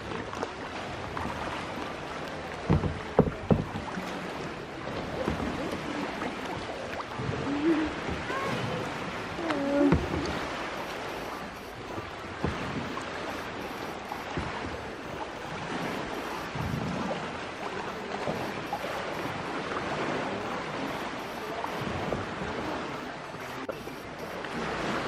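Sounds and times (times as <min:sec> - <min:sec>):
water lapping around kayak: 0:00.0 - 0:25.0
wind rumbling on microphone: 0:00.0 - 0:25.0.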